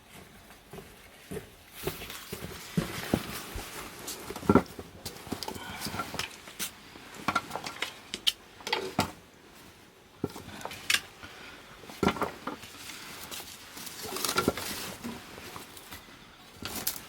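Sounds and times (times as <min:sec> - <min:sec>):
firewood crackling and popping: 0:00.6 - 0:17.0.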